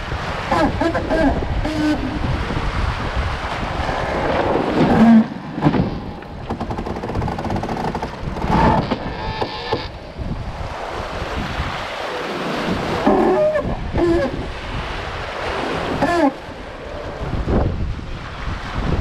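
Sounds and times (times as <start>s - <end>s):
water splashing past hull: 0.0s - 19.0s
wind buffeting microphone: 0.0s - 19.0s.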